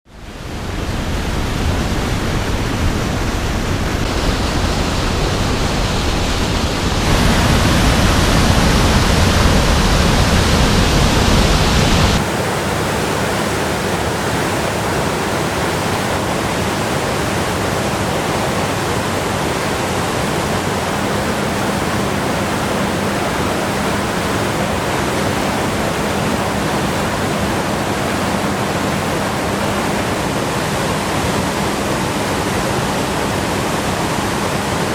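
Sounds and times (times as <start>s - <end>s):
creek rushing: 0.1s - 34.9s.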